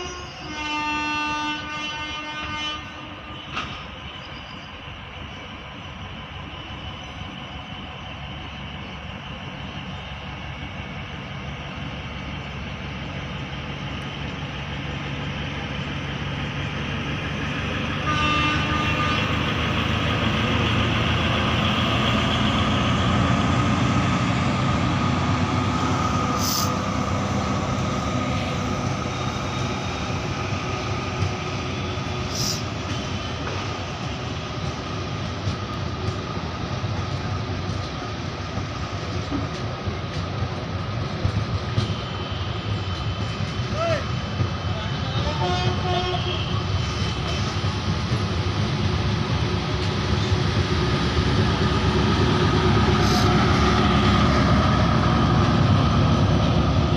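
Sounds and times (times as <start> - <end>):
diesel train passing: 0.0 - 56.9.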